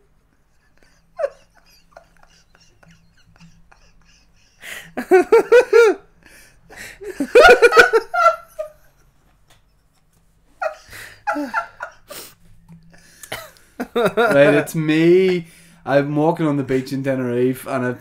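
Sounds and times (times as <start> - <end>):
men laughing hard: 0.1 - 9.9, 10.5 - 15.7.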